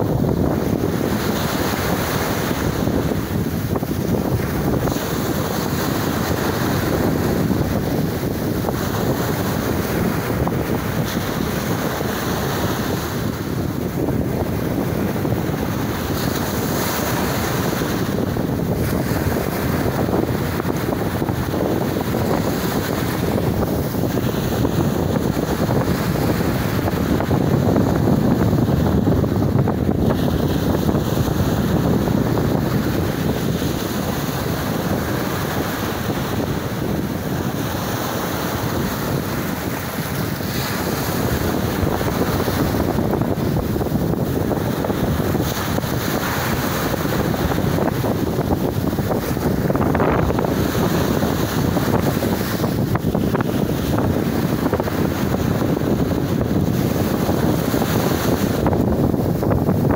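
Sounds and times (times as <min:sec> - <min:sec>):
sea waves breaking: 0:00.0 - 0:59.9
wind buffeting microphone: 0:00.0 - 0:59.9.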